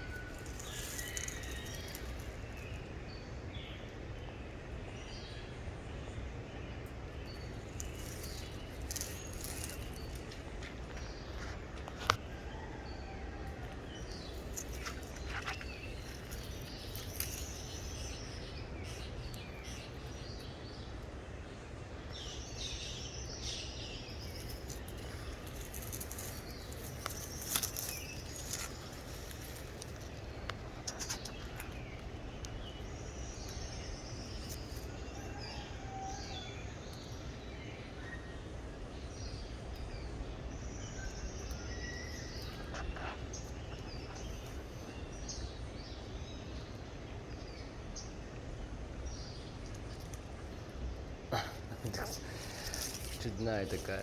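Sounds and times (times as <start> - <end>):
birds chirping and warbling: 0.0 - 54.0.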